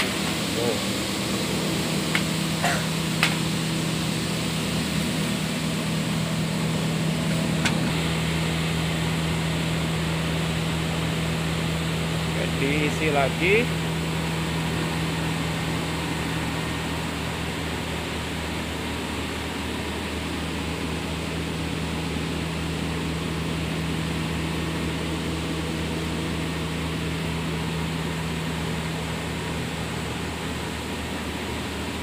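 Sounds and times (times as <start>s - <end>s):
machine humming with hiss: 0.0s - 32.0s.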